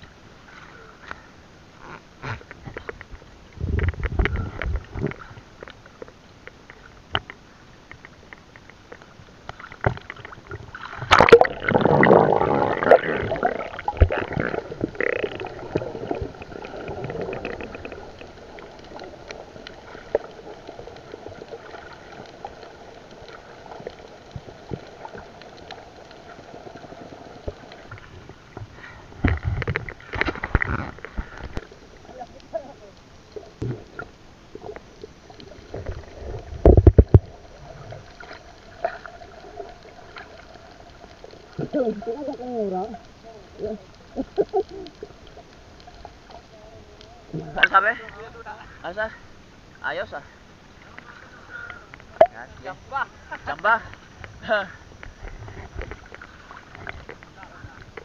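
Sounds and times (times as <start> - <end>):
rush of bubbling water: 0.0 - 48.8
underwater gurgling and rushing: 0.0 - 58.0.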